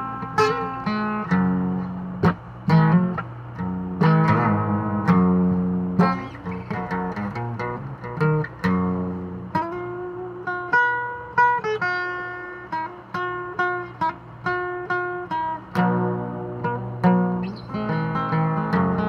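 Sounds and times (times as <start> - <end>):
fingerstyle acoustic guitar: 0.0 - 19.0.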